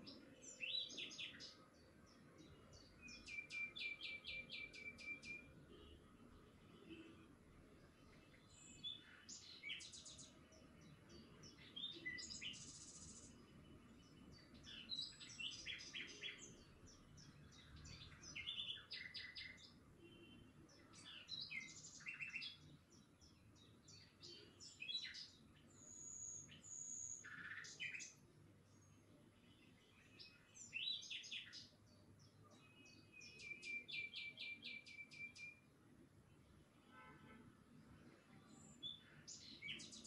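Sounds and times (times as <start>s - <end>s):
small birds chirping: 0.0s - 6.0s, 7.7s - 36.7s, 37.9s - 40.0s.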